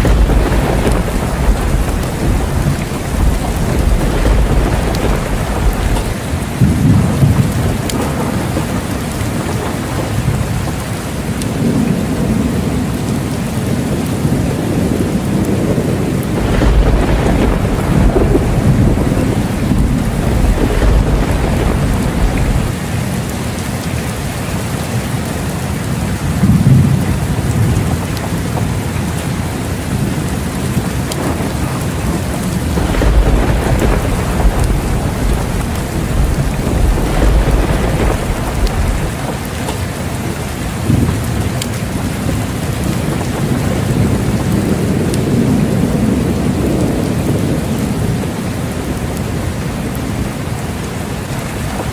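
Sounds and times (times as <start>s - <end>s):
thunder rumbling: 0.0s - 23.9s, 24.9s - 51.9s
steady rain falling: 0.0s - 51.9s.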